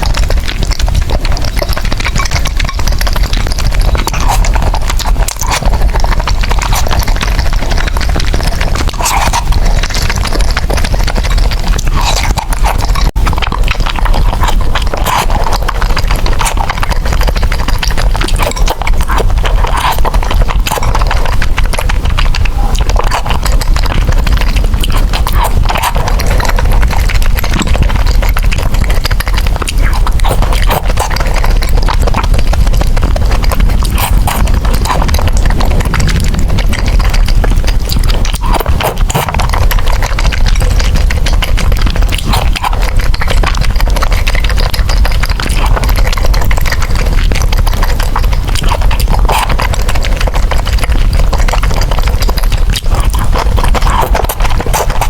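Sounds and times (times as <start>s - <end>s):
chewing noodles with wet smacks: 0.0s - 55.0s.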